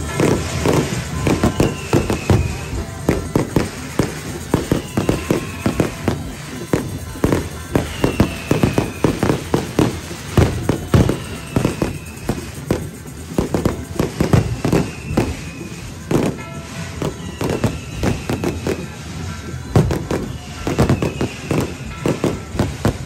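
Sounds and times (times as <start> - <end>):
firecrackers banging: 0.0 - 23.0
high falling whistle: 0.0 - 23.0.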